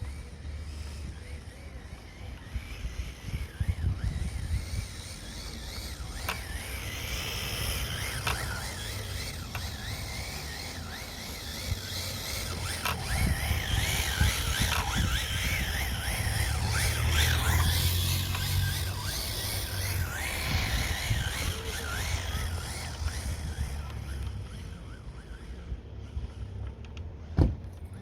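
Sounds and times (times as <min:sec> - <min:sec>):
rc car motor whine: 0:00.0 - 0:28.0.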